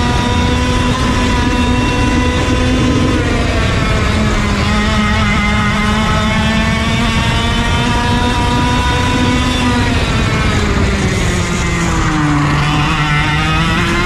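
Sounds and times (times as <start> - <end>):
kart engine at high revs: 0.0 - 14.0.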